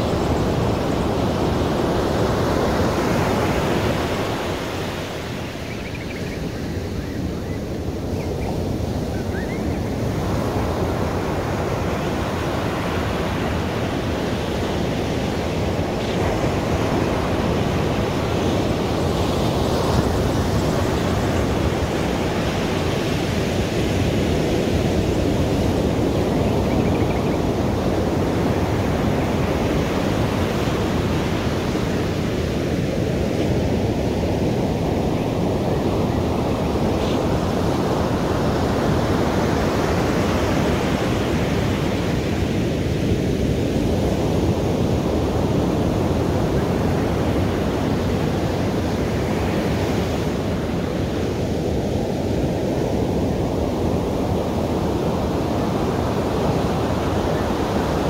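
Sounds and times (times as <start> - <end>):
ocean waves washing on beach: 0.0 - 58.0.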